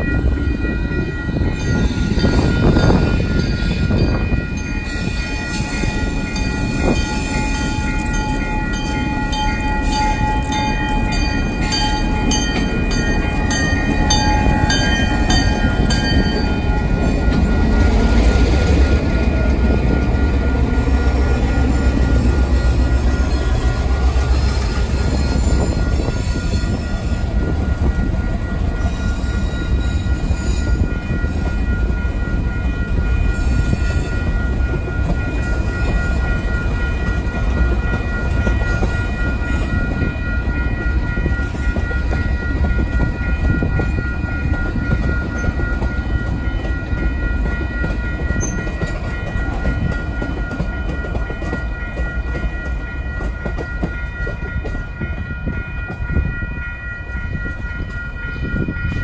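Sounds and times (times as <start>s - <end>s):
high ringing tone: 0.0s - 59.0s
train wheels rumbling on rails: 0.0s - 59.0s.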